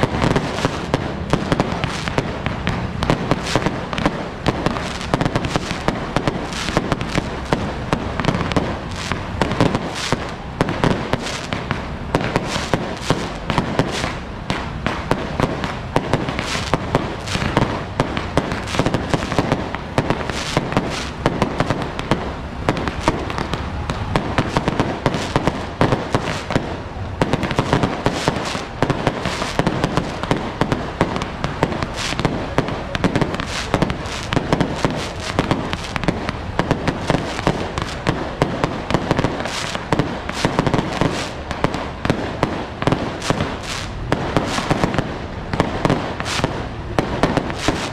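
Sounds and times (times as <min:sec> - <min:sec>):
firecrackers going off: 0:00.0 - 0:47.9.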